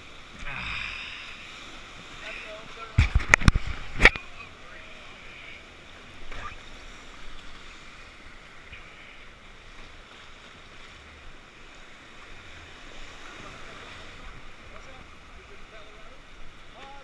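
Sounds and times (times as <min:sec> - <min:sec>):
rushing river water: 0:00.0 - 0:17.0
water splashes: 0:00.0 - 0:17.0.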